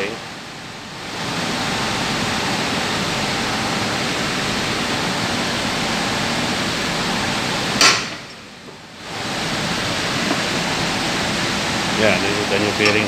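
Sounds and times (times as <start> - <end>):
steady rushing air noise: 0.0 - 13.0.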